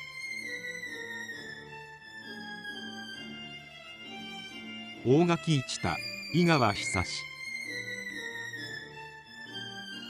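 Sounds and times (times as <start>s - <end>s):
classical violin music: 0.0s - 10.0s.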